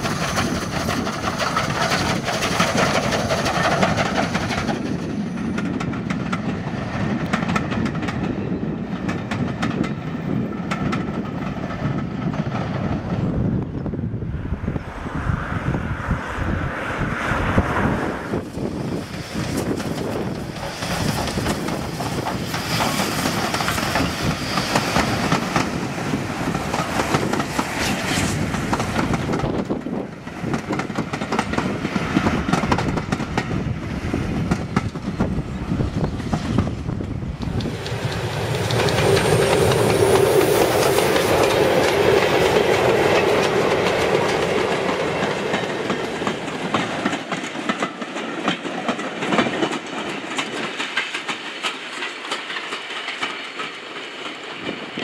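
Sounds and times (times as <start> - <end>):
wheels clattering on rails: 0.0 - 13.9, 18.3 - 55.0
steam locomotive passing: 0.0 - 55.0.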